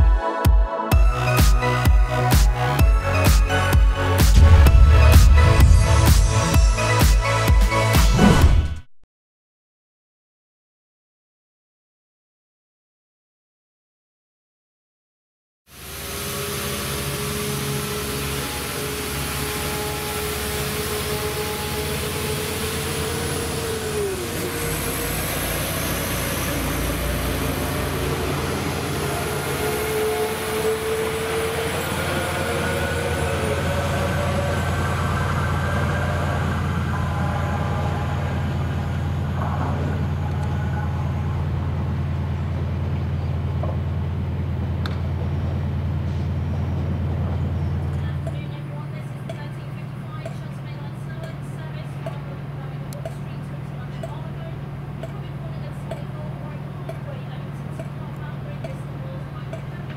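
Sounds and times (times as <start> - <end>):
engine whining tones: 0.9 - 8.6, 15.7 - 59.9
diesel train engine humming: 1.0 - 8.0, 15.7 - 59.9.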